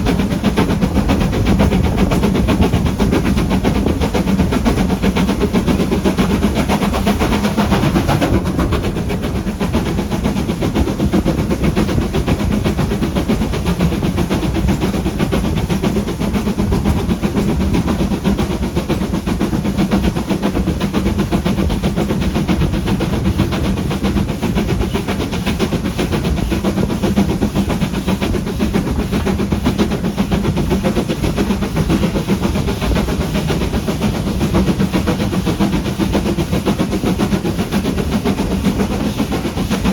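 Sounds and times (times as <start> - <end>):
train clickety-clack: 0.0 - 39.9
train wheels rumbling on rails: 0.0 - 39.9.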